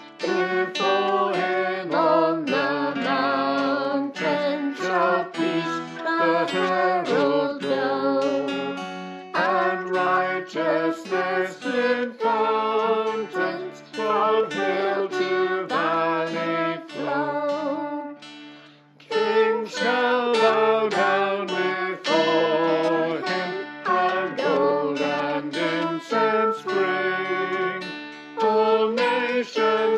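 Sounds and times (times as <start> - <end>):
voices singing a hymn: 0.0 - 18.2, 19.0 - 29.9
acoustic guitar: 0.0 - 29.9.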